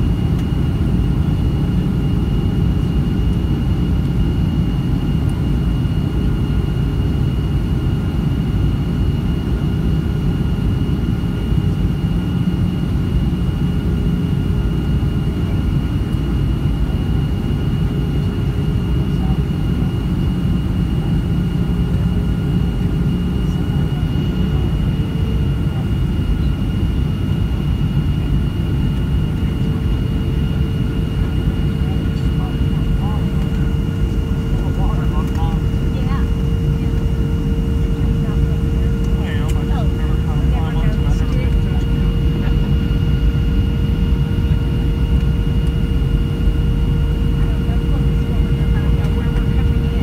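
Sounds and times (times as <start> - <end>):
jet engines rumbling and whining: 0.0 - 50.0.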